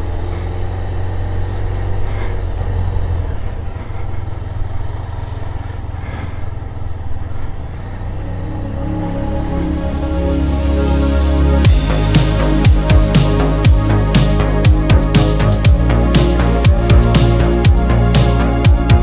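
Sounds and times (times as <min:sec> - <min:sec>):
motorcycle engine idling: 0:00.0 - 0:09.5, 0:11.6 - 0:17.9.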